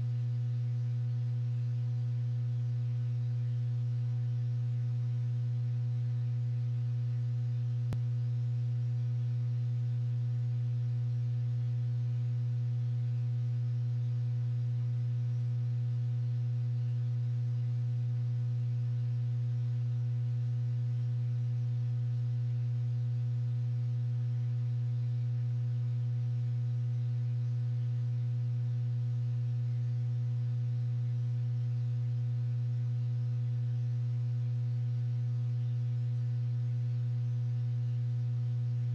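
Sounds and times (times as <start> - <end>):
steady low hum with overtones: 0.0 - 38.9.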